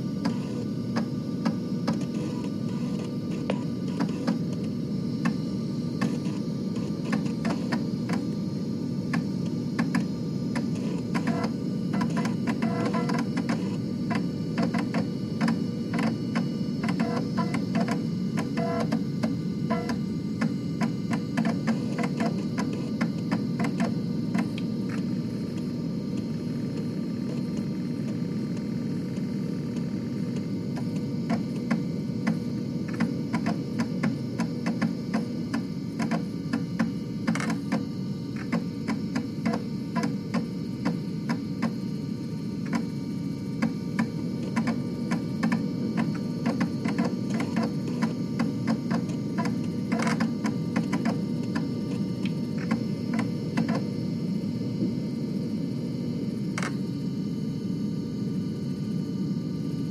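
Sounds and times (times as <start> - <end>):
floppy disk drive motor hum: 0.0 - 59.9.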